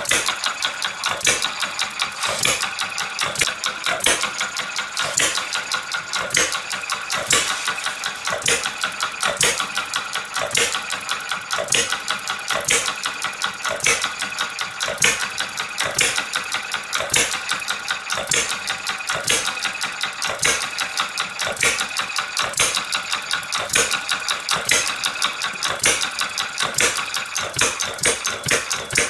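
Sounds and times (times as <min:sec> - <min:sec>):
model engine clattering: 0:00.0 - 0:29.0.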